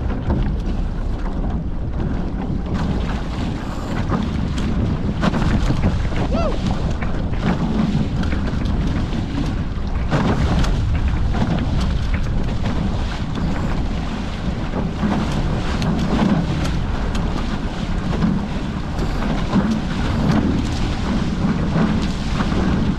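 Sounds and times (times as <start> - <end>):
water rushing along hulls: 0.0 - 22.9
wind buffeting microphone: 0.0 - 22.9
water slaps: 2.4 - 22.9.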